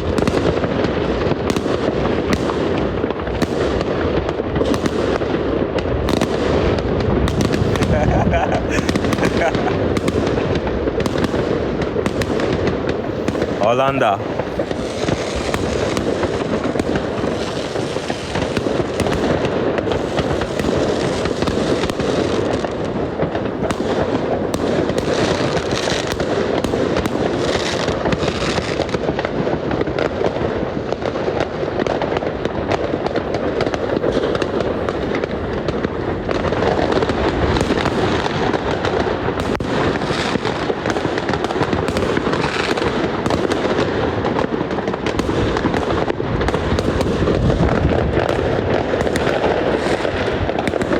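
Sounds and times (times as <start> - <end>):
fireworks and firecrackers banging: 0.0 - 50.9.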